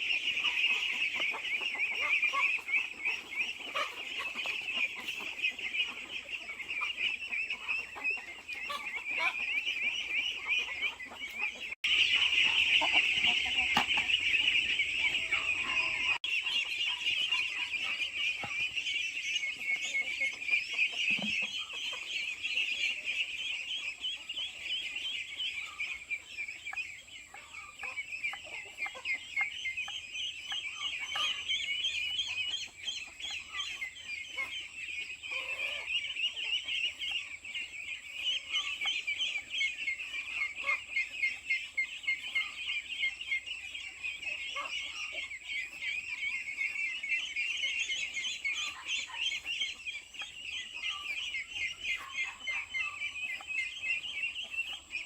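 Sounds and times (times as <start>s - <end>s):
chickens peeping: 0.0s - 55.0s
low chicken clucks: 0.0s - 55.0s.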